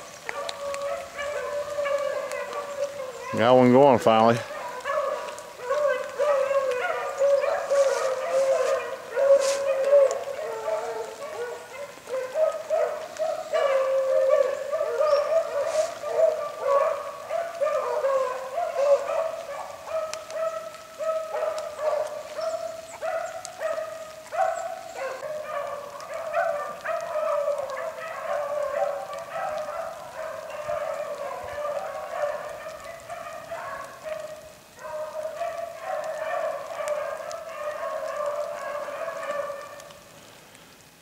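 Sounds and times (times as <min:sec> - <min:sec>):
dogs baying and howling: 0:00.0 - 0:40.2.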